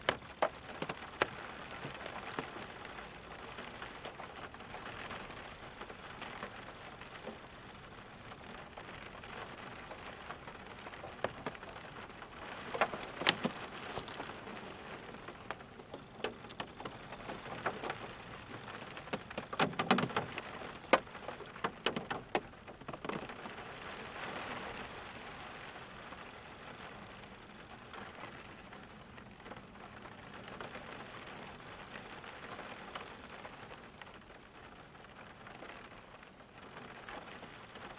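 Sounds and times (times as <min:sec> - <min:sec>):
rain hiss: 0:00.0 - 0:37.9.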